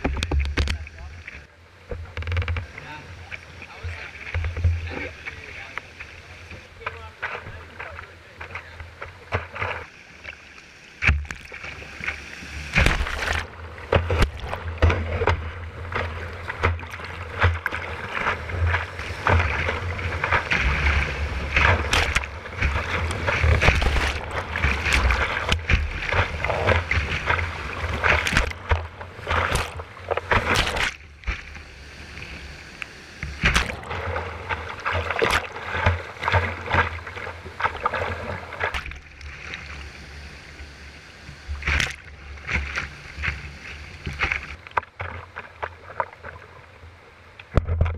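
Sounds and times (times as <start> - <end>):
whitewater rushing and splashing: 0.0 - 47.7
waves splashing over kayak deck: 0.0 - 47.9.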